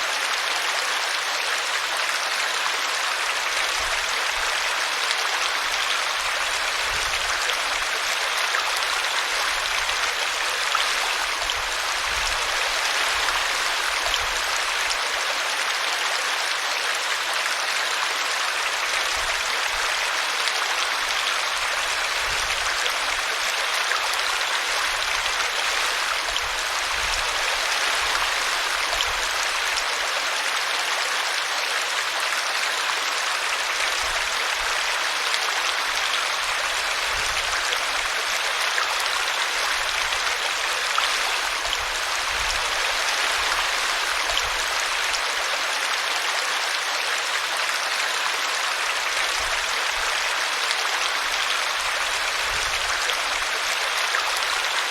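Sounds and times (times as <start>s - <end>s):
brook water splashing: 0.0s - 54.9s.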